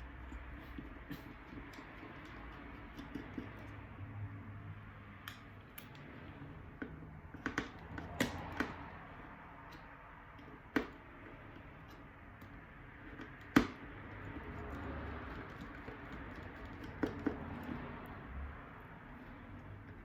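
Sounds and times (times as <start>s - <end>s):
small parts clicking and tapping: 0.0s - 4.0s, 5.1s - 18.2s.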